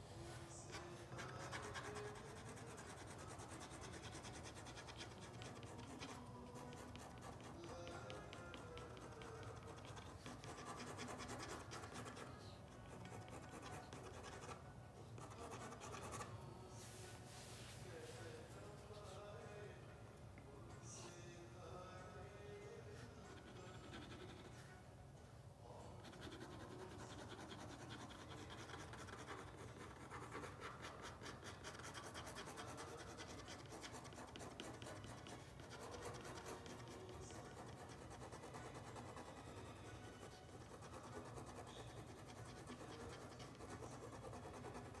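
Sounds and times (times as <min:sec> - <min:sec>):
strokes scratching on paper: 0:00.3 - 0:18.0, 0:23.0 - 0:24.8, 0:26.0 - 0:45.0.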